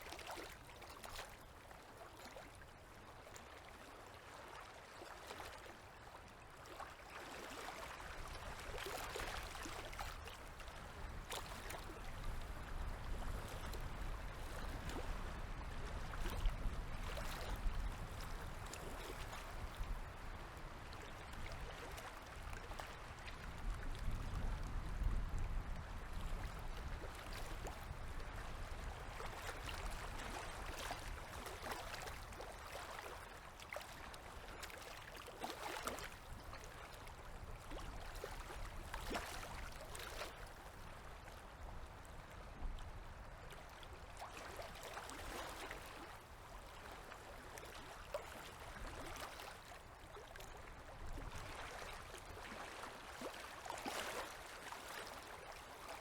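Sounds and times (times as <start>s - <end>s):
river waves lapping and splashing: 0.0s - 56.0s.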